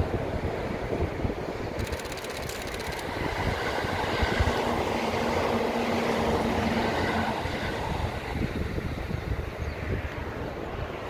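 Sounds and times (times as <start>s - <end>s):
faint train hum: 0.0s - 11.0s
train wheels rushing on track: 0.0s - 11.0s.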